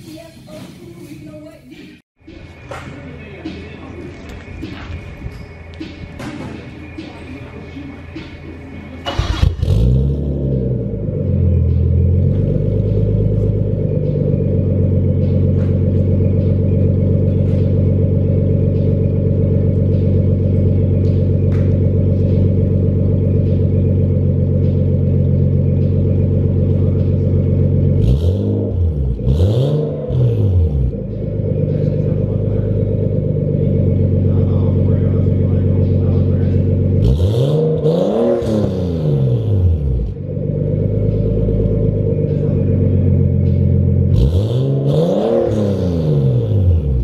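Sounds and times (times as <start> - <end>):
car engine idling: 2.2 - 47.0
engine revving: 9.0 - 47.0.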